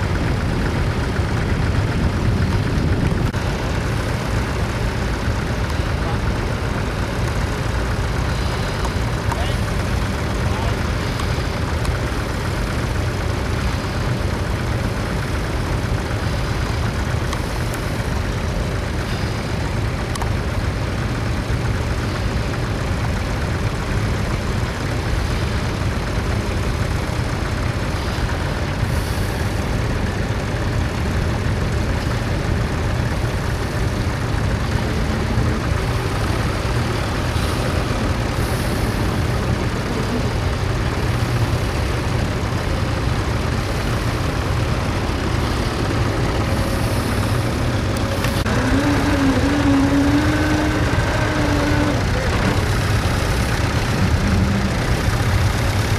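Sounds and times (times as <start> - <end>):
tractor engine droning: 0.0 - 55.9.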